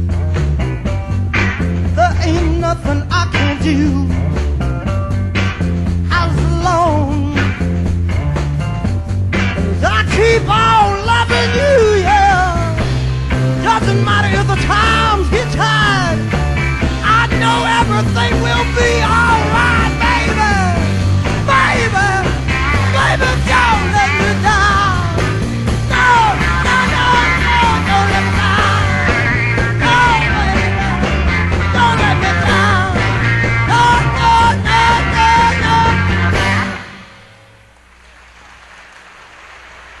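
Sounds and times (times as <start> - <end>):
electric guitar bending pitch: 0.0 - 37.8
rock band playing live: 0.0 - 38.0.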